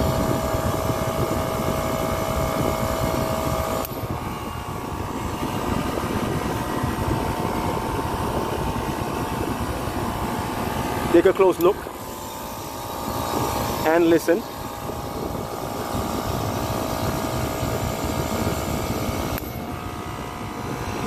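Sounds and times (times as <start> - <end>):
compressor humming: 0.0 - 21.0.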